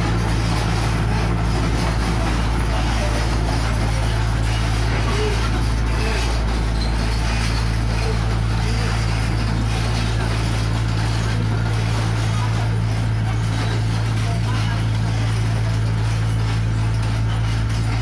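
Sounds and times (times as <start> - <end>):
crawler tracks moving: 0.0 - 18.0
diesel excavator engine droning: 0.0 - 18.0.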